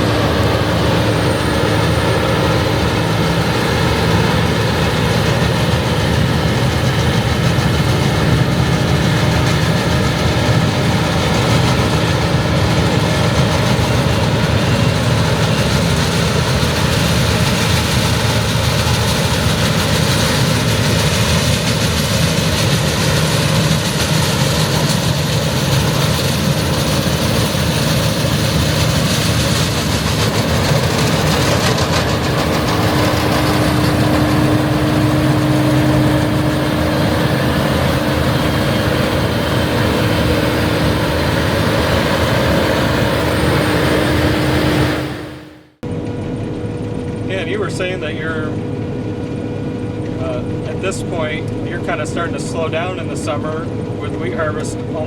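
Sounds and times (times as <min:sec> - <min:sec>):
diesel engine drone: 0:00.0 - 0:55.0
steady hum: 0:00.0 - 0:55.0.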